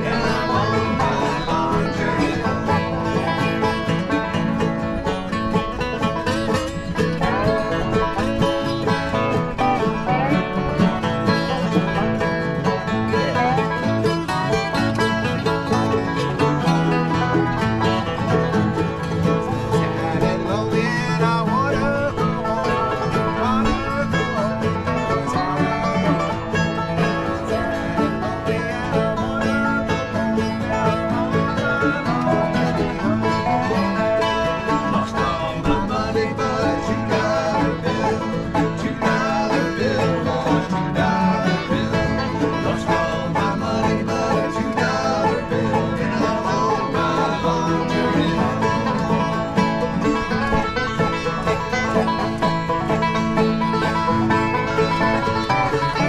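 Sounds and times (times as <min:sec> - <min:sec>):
acoustic bluegrass band playing: 0:00.0 - 0:56.0.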